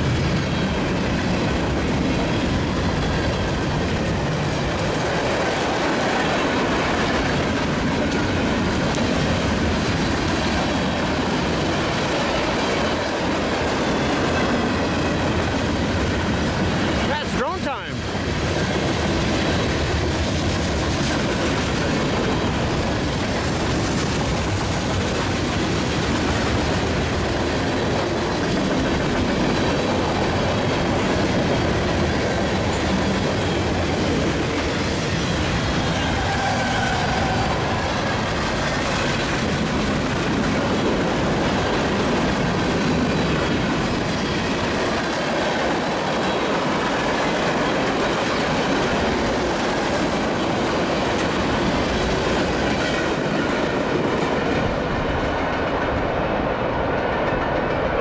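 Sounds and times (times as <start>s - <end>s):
clickety-clack over rail joints: 0.0s - 58.0s
steel wheels rumbling on rail: 0.0s - 58.0s.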